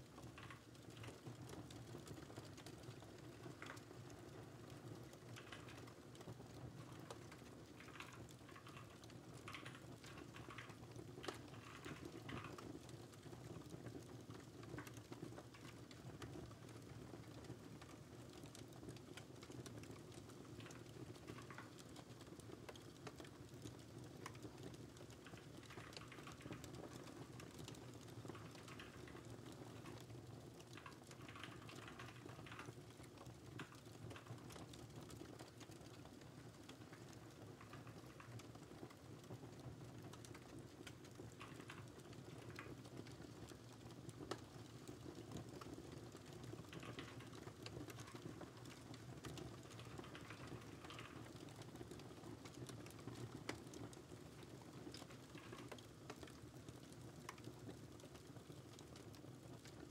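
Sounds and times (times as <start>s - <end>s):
crackling fire: 0.0s - 59.9s
faint keyboard typing: 0.0s - 59.9s.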